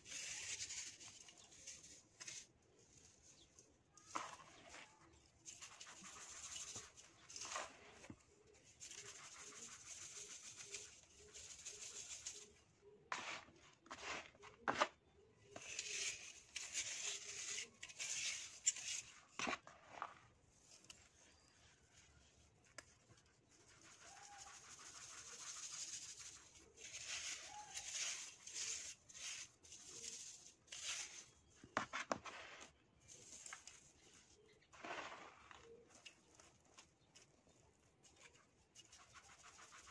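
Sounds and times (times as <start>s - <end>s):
sand sifting through a sieve: 0.0s - 39.9s.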